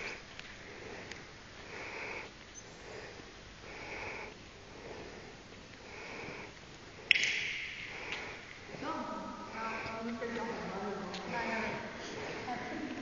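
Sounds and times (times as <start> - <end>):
soft breathing: 0.0 - 7.2, 7.8 - 13.0.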